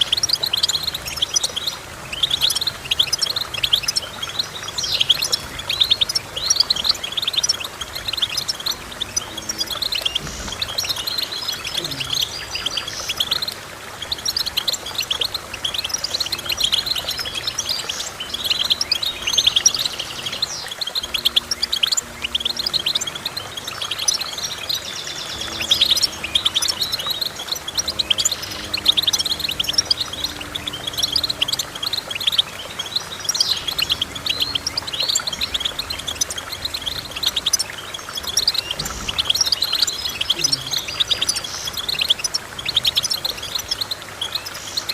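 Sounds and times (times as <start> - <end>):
goldfinch twittering song: 0.0 - 44.9.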